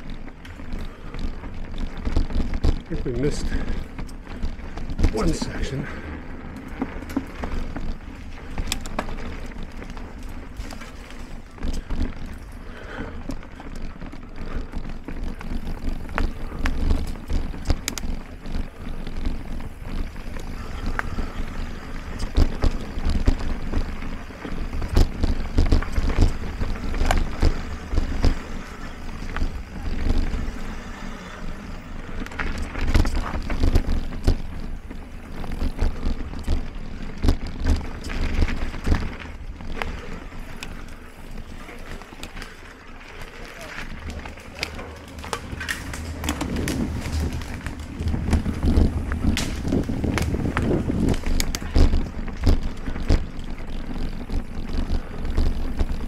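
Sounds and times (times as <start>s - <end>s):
bike knocking and rattling: 0.0s - 56.0s
bike tyres rumbling on dirt trail: 0.0s - 56.0s.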